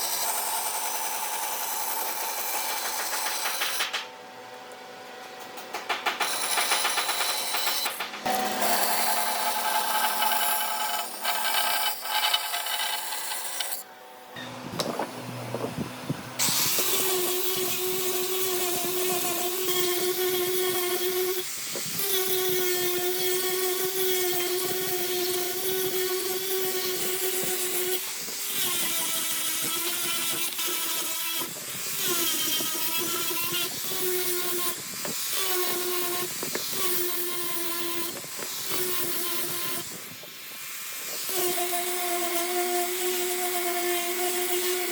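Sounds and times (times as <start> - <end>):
rotary tool whining cutting wood: 0.0 - 4.0, 6.2 - 15.7, 16.4 - 44.9.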